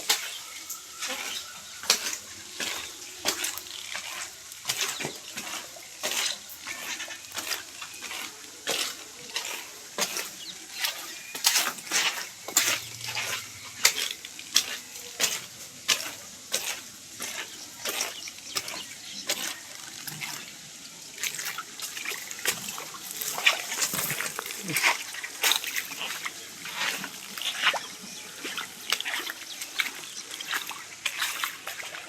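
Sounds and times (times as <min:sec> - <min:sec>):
steady watery hiss: 0:00.0 - 0:32.0
water splashing: 0:00.0 - 0:32.0.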